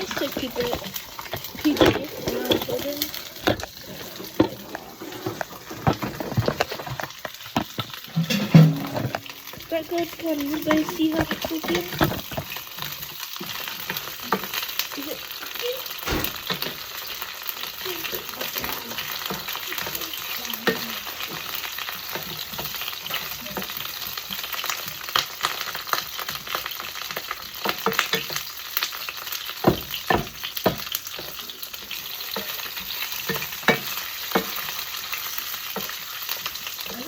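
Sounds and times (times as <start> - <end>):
dumplings sizzling in oil: 0.0 - 37.0.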